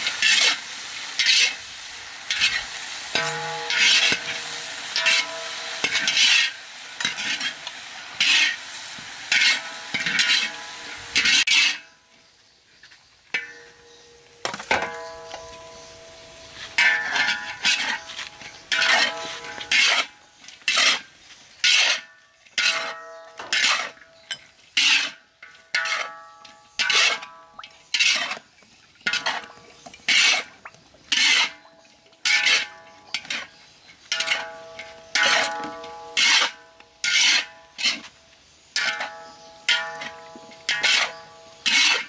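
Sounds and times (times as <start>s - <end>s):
metal spatula scraping wok: 0.0s - 12.0s, 12.8s - 42.0s.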